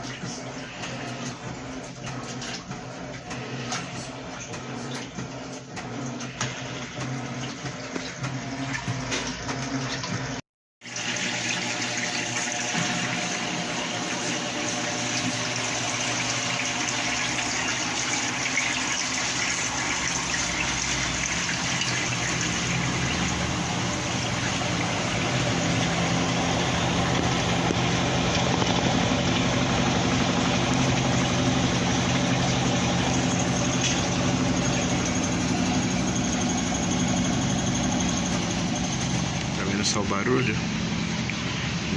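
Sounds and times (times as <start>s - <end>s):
water pouring into washing machine: 0.1s - 41.9s.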